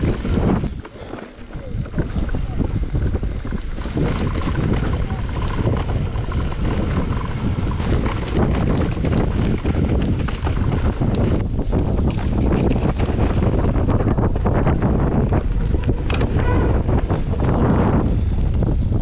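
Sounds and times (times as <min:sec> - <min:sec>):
bike tyres and frame rattling: 0:00.0 - 0:19.0
wind buffeting microphone: 0:00.0 - 0:19.0.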